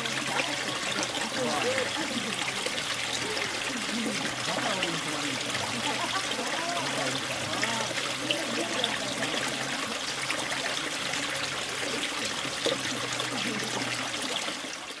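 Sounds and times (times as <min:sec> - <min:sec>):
small stream trickling: 0:00.0 - 0:15.0.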